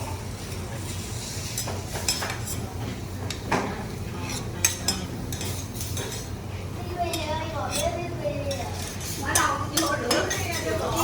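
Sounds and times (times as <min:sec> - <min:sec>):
utensils and tableware clinking: 0:00.4 - 0:06.4, 0:07.1 - 0:11.0.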